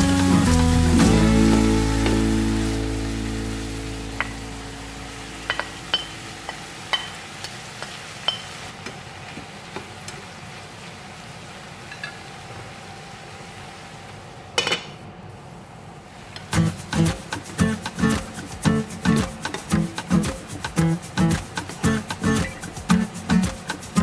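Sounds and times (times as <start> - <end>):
food sizzling in a frying pan: 0.0 - 14.1, 15.3 - 24.0.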